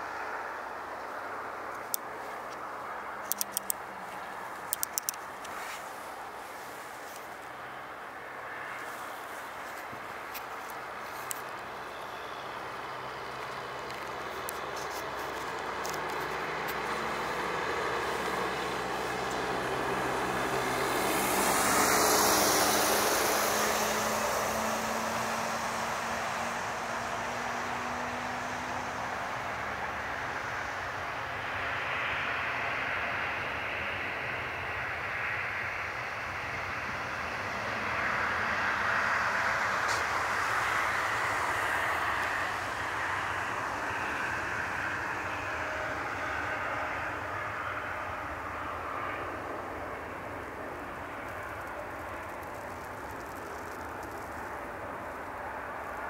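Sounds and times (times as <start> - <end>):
jet engines roaring at takeoff: 0.0 - 56.0.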